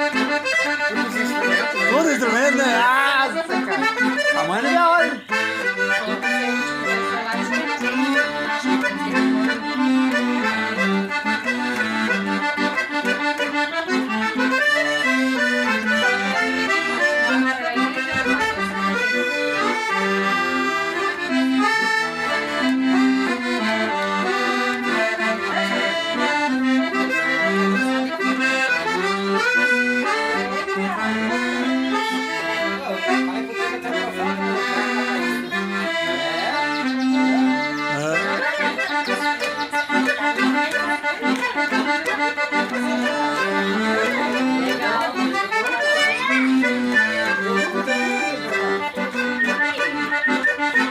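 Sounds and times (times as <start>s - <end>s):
accordion melody: 0.0s - 50.9s.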